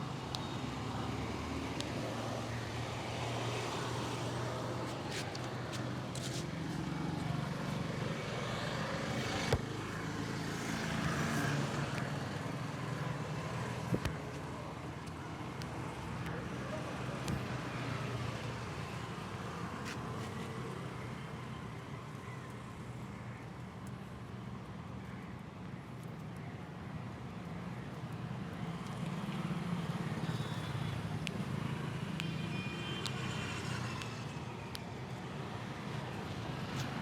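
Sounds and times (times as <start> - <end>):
street traffic: 0.0 - 37.0.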